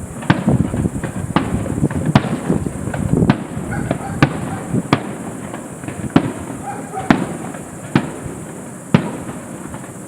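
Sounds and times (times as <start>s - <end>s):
fireworks rumble and crackle: 0.0s - 10.0s
fireworks shells bursting: 0.0s - 10.0s.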